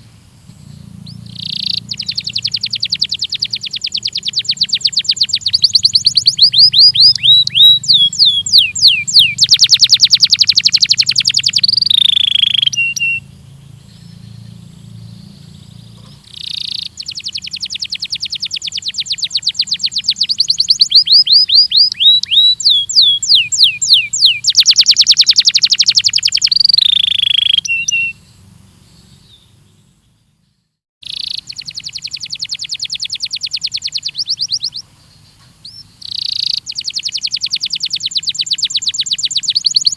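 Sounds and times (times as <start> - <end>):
canary singing trills: 0.5 - 39.9.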